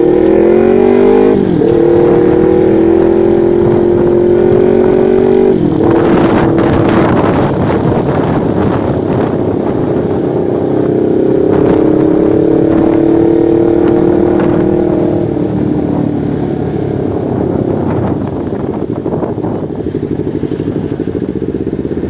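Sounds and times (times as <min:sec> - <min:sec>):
motorcycle engine running: 0:00.0 - 0:22.0
steady engine note: 0:00.0 - 0:22.0
steady rush of noise: 0:00.0 - 0:22.0.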